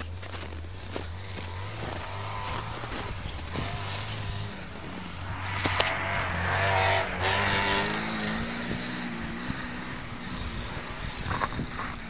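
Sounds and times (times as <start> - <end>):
off-road vehicle engine revving: 0.2 - 12.0.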